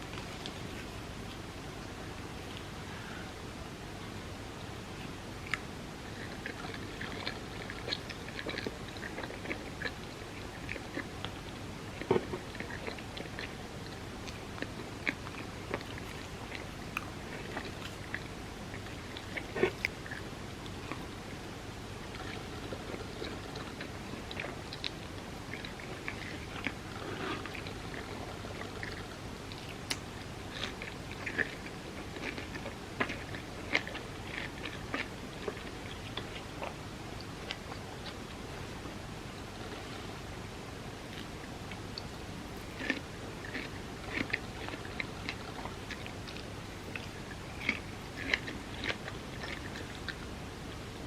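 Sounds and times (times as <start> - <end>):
steady low hiss: 0.0 - 51.0
chewing with wet mouth clicks: 5.0 - 38.4, 41.1 - 50.3
sharp eating sounds: 5.1 - 38.4, 41.0 - 50.3.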